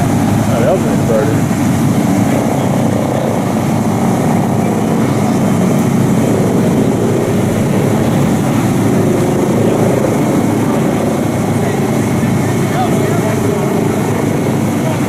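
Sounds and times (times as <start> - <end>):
motor engines running: 0.0 - 15.0.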